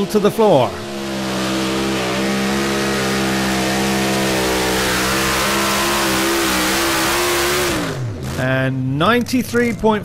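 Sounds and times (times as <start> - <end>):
tractor engine at full throttle: 0.0 - 10.0.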